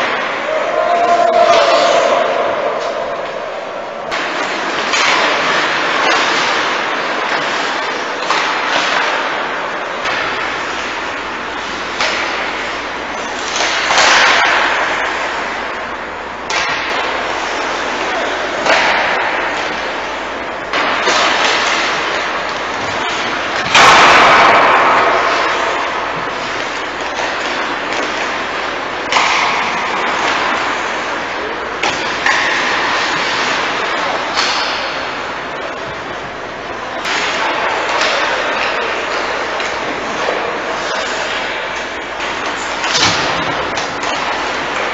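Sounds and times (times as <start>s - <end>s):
skates scraping ice: 0.0s - 15.7s, 16.5s - 44.9s.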